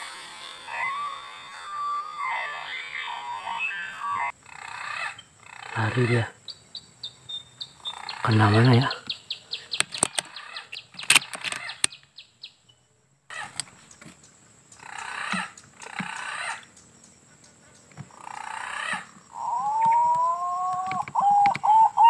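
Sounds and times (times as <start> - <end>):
bird calling: 0.0 - 22.0
insect trill: 0.0 - 22.0.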